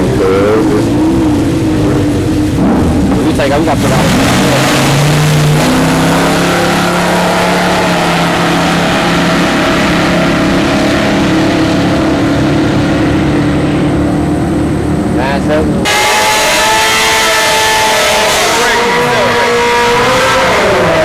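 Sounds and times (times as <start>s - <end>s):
car engine at full throttle: 0.0s - 21.0s.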